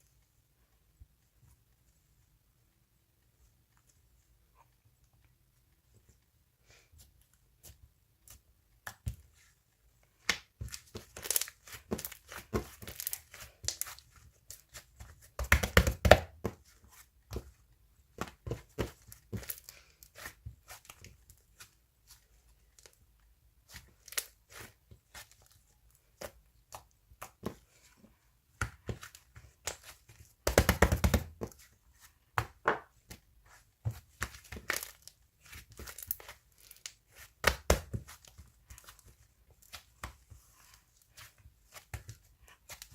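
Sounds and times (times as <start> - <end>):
rustling and crinkling: 0.0 - 15.5, 16.3 - 42.9.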